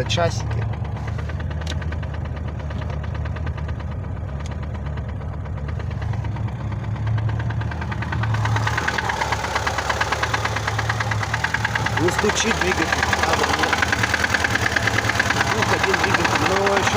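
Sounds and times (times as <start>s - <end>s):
petrol engine idling: 0.0s - 16.9s.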